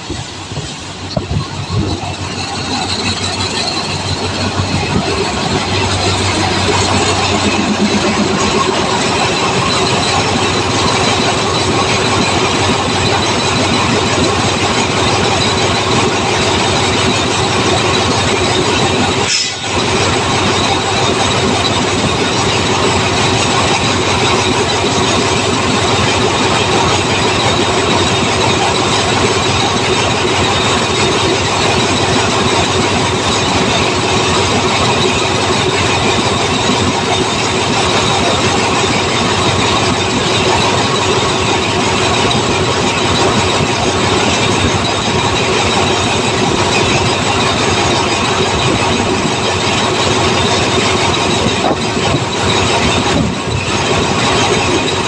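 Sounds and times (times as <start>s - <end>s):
train wheels on rail: 0.0s - 55.0s
wheel squeal: 0.0s - 55.0s.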